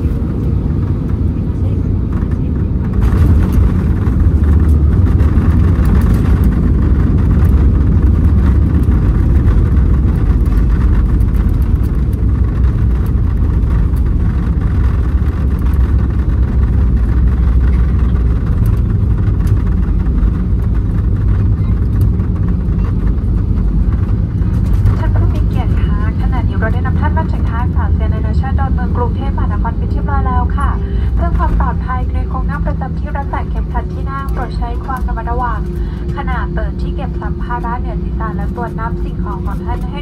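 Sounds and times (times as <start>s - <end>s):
engines and wheels rumbling: 0.0s - 40.0s.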